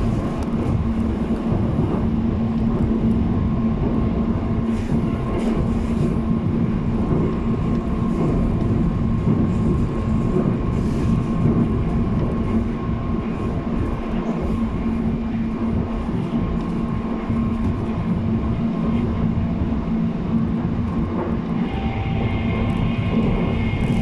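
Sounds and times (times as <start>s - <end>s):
constant low hum: 0.0s - 24.0s
train rail rumble: 0.0s - 24.0s.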